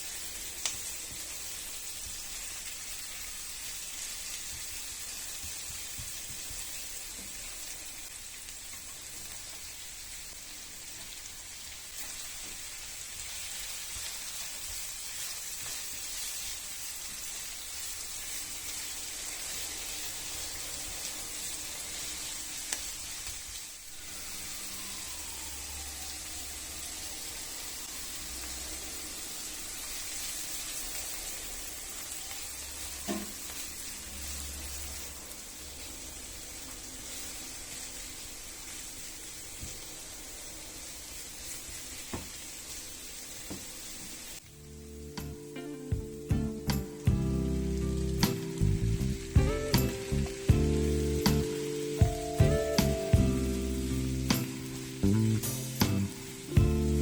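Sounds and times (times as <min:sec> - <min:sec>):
food sizzling in a hot pan: 0:00.0 - 0:57.0.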